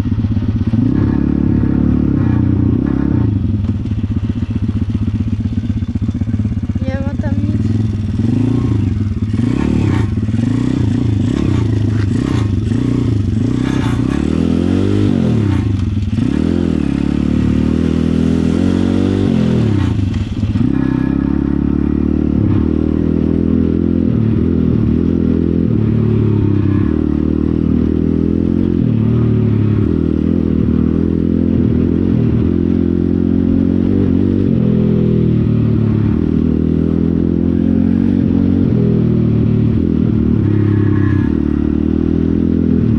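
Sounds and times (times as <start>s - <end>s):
pit bike engine revving: 0.0s - 42.9s.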